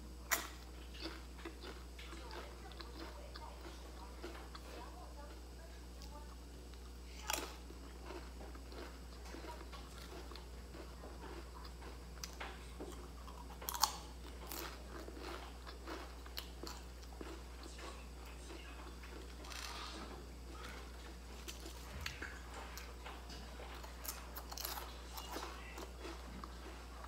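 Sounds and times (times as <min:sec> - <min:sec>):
crispy crackers crunching: 0:00.2 - 0:27.0.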